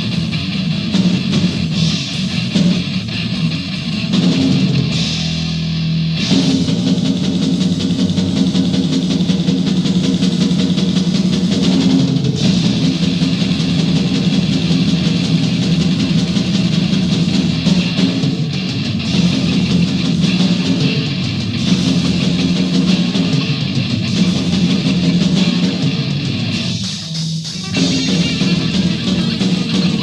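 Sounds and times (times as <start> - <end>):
distorted electric guitar riffing: 0.0 - 30.0
drum kit: 0.0 - 30.0.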